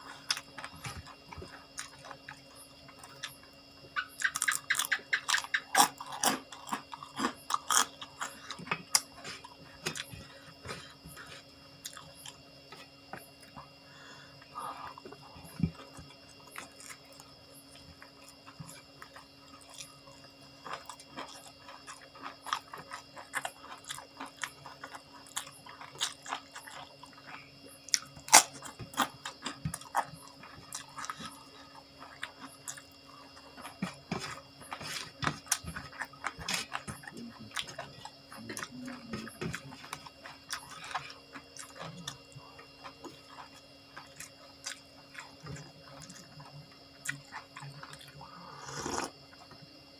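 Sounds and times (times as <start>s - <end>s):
faint steady hum: 0.0s - 49.9s
person chewing crunchy food: 0.0s - 49.9s.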